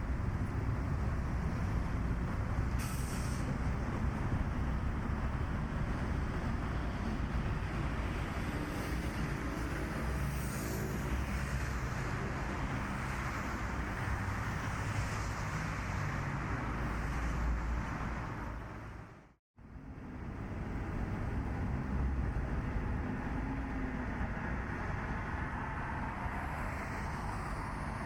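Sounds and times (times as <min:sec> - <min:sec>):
road and wind noise: 0:00.0 - 0:28.0.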